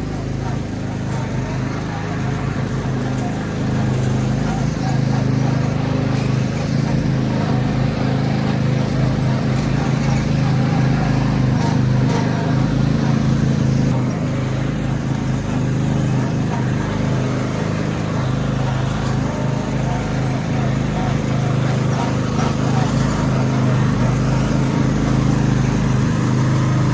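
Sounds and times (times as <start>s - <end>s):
tractor engine droning: 0.0s - 26.9s.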